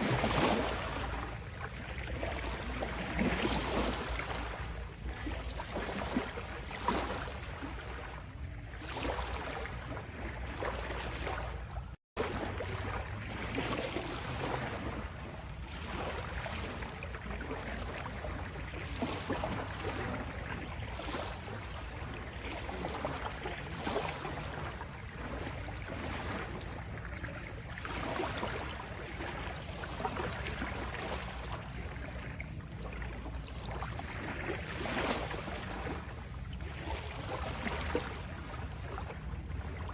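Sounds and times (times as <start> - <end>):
sea waves lapping on shore: 0.0 - 39.9.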